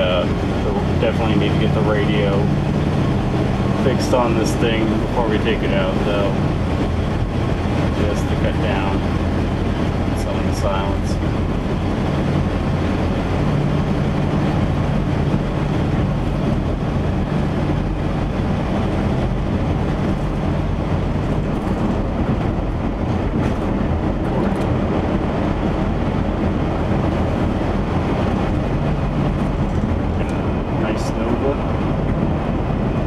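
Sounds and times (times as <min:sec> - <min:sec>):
road rumble: 0:00.0 - 0:33.0
van engine drone: 0:00.0 - 0:33.0.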